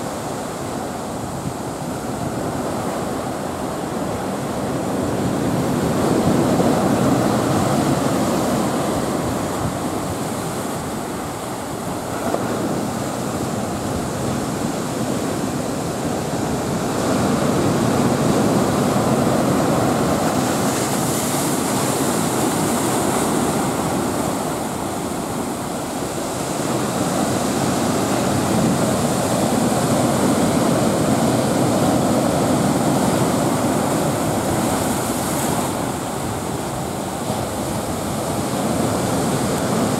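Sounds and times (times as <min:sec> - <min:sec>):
breaking surf rushing: 0:00.0 - 0:39.9.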